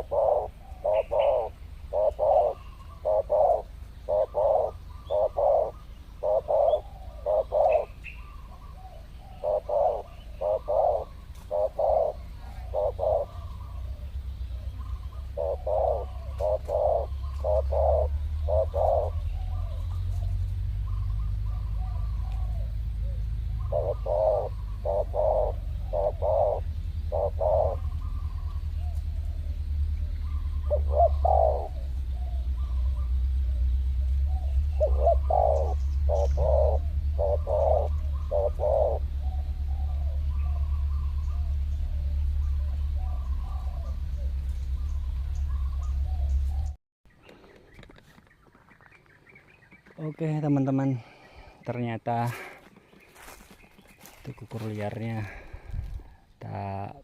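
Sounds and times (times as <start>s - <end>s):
steady low rumble: 0.0s - 46.8s, 53.0s - 57.0s
doves cooing: 0.0s - 57.0s.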